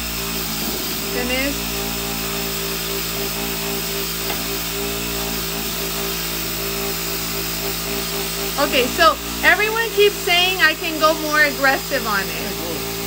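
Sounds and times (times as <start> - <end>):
rotary tool motor hum: 0.0 - 13.0.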